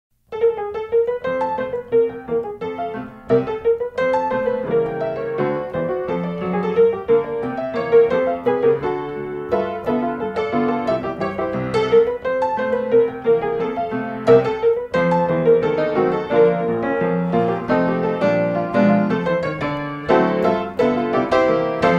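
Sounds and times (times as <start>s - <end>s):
gentle piano music: 0.2s - 21.9s.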